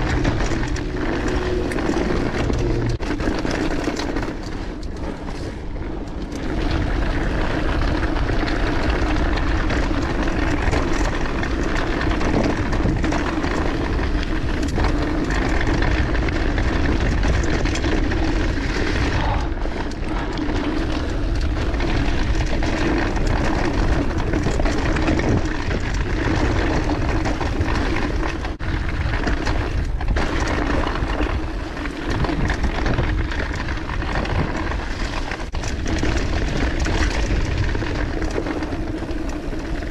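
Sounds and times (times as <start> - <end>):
bike rattling: 0.0 - 39.9
bike tyres on dirt: 0.0 - 39.9
wind rushing over microphone: 0.0 - 39.9.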